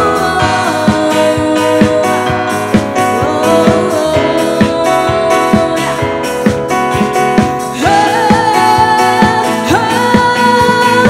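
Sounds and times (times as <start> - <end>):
drum kit beat: 0.0 - 11.0
guitar playing: 0.0 - 11.0.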